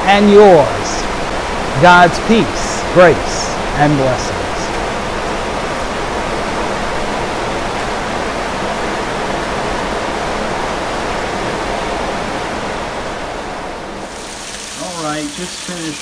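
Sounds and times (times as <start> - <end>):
heavy rain on roof: 0.0 - 16.0.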